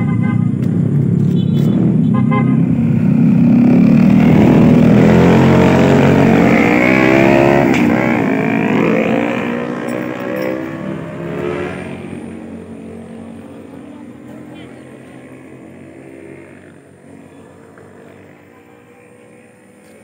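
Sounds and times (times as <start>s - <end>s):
motorcycle passing by: 1.7s - 20.0s.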